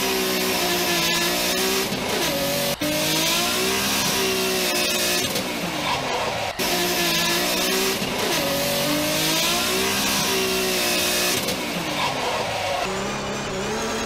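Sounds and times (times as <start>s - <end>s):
simulated car engine revving: 0.0s - 14.0s.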